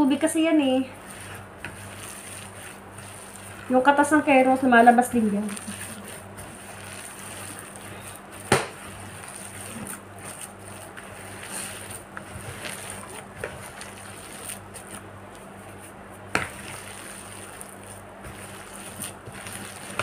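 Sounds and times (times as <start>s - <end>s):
squishing of moist mixture: 0.0s - 20.0s.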